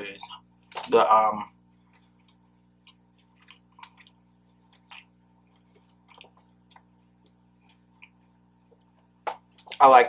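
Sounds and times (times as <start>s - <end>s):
low steady hum: 0.0s - 10.0s
person chewing: 1.7s - 9.9s.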